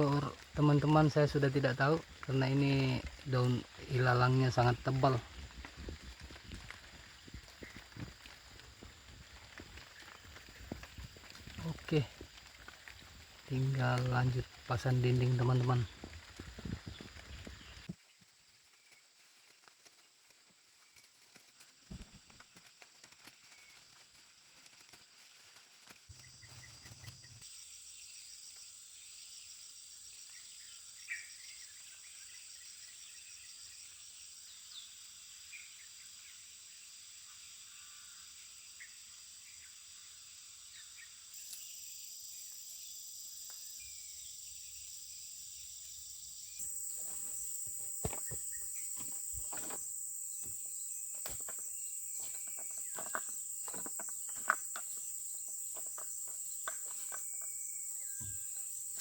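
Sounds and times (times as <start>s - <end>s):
crickets and insects chirping: 0.0s - 59.0s.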